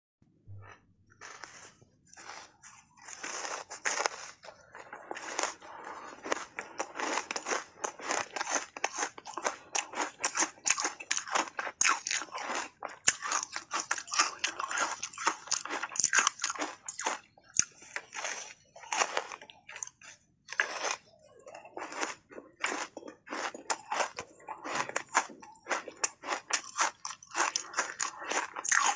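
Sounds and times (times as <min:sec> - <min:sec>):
ice crunching while chewed: 0:00.6 - 0:28.9.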